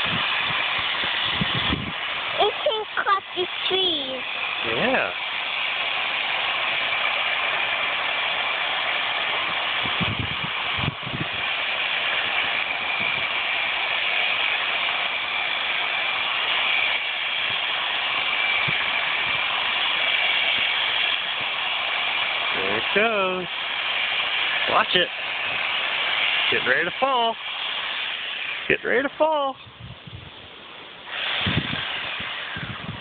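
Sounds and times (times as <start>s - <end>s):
small engine running: 0.0s - 29.6s, 30.8s - 33.0s.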